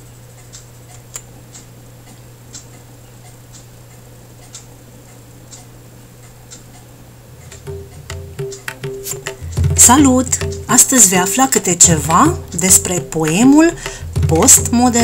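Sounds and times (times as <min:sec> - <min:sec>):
low steady hum: 0:00.0 - 0:15.0
soft clock-like ticks: 0:00.3 - 0:15.0.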